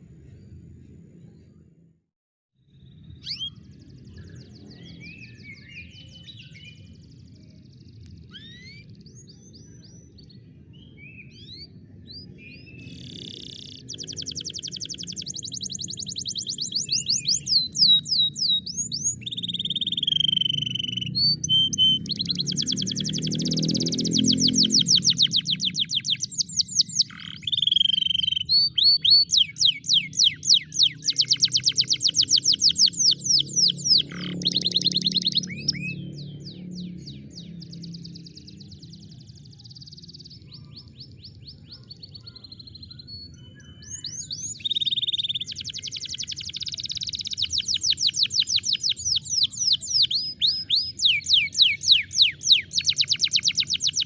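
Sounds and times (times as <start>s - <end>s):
canary singing trills: 2.7s - 54.0s.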